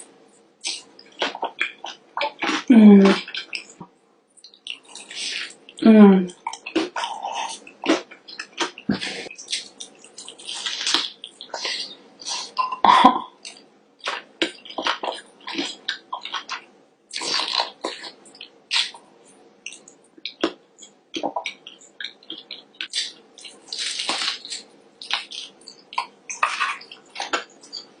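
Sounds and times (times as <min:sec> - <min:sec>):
person chewing and smacking: 0:00.6 - 0:19.0, 0:19.6 - 0:28.0.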